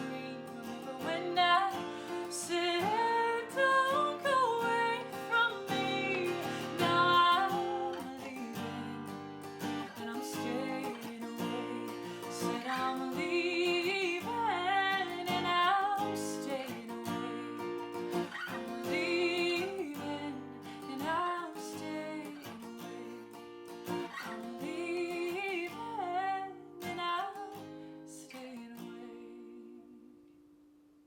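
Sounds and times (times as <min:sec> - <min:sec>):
strummed acoustic guitar: 0:00.0 - 0:30.3
woman singing: 0:00.0 - 0:30.4.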